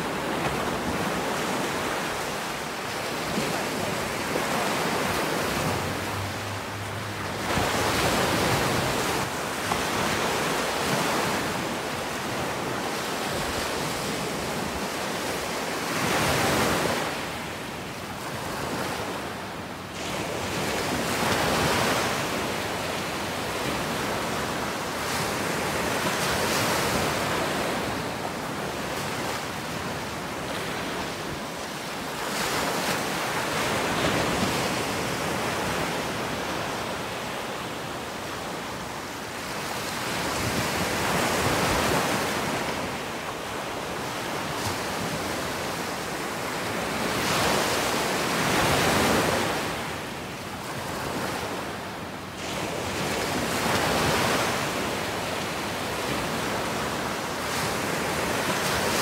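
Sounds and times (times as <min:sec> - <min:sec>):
small waves breaking on beach: 0:00.0 - 0:59.0.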